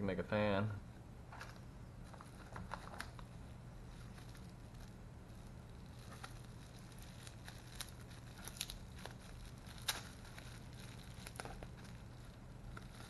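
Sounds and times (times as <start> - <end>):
faint low hum: 0.0 - 13.0
bubble-wrap bag crinkling: 2.0 - 13.0.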